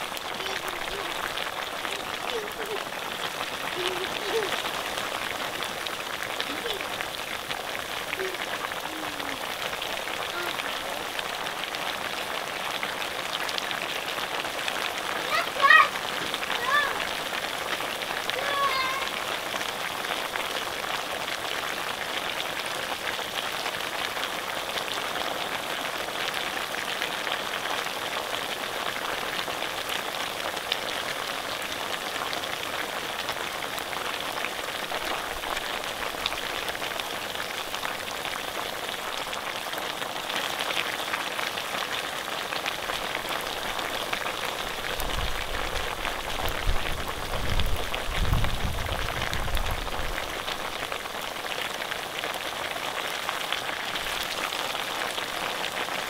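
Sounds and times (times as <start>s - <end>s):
meat sizzling in a pan: 0.0s - 56.0s.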